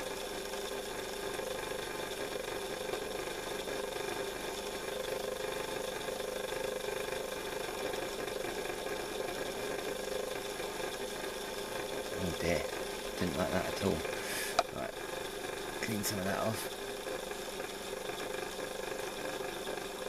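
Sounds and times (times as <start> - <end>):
model locomotive motor humming: 0.0 - 20.0.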